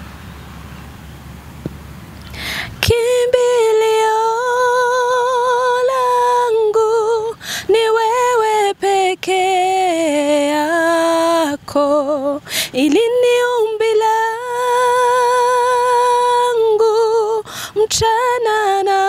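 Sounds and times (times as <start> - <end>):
woman singing unaccompanied: 2.6 - 19.0.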